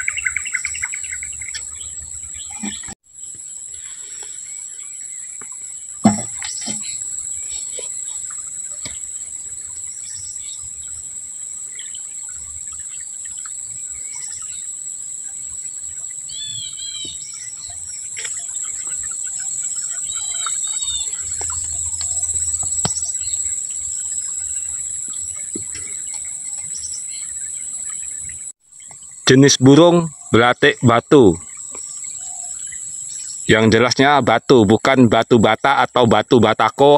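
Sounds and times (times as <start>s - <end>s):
bird chirping: 0.0s - 34.3s
insects droning: 0.0s - 36.9s.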